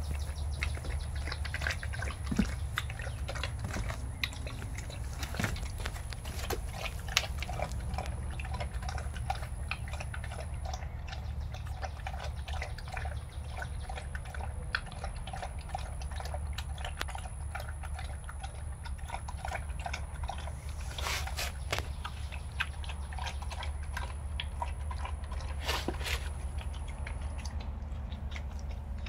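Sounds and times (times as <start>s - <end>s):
dog lapping from steel bowl: 0.0s - 29.0s
low background rumble: 0.0s - 29.0s.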